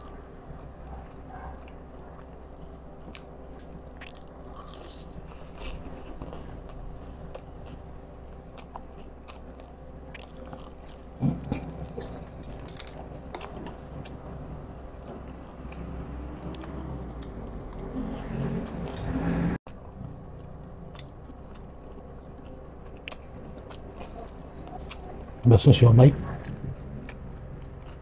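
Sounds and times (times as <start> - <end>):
chewing crunchy food: 0.0 - 19.0, 19.7 - 25.5, 26.1 - 28.0.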